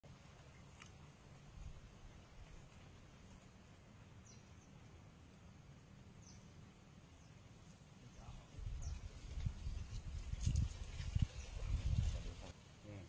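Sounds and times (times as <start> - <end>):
low wind-like rumble: 1.3 - 12.6.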